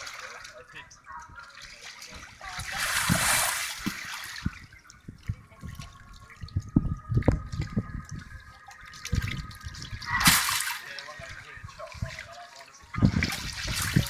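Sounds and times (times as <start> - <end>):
pool water splashing: 0.0 - 14.0.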